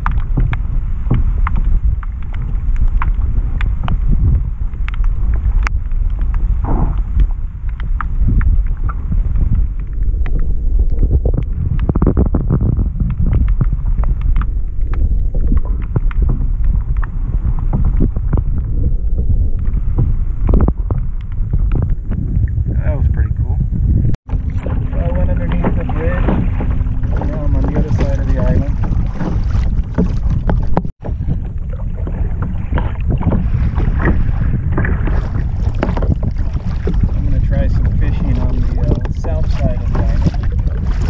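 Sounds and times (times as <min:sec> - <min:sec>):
water rushing underwater: 0:00.0 - 0:41.0
wind buffeting microphone: 0:00.0 - 0:41.0.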